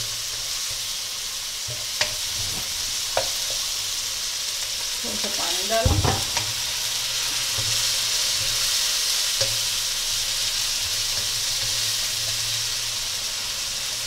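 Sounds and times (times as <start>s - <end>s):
spatula stirring in wok: 0.0s - 5.0s, 5.7s - 14.0s
vegetables sizzling in oil: 0.0s - 14.0s.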